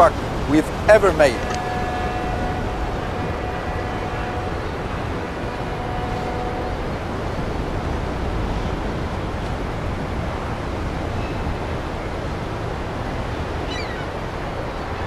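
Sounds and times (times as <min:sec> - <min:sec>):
water rushing: 0:00.0 - 0:15.0
wind: 0:00.0 - 0:15.0.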